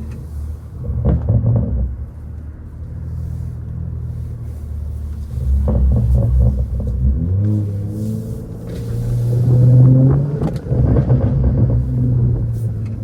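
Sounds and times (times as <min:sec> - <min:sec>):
car exhaust low steady note: 0:00.0 - 0:13.0.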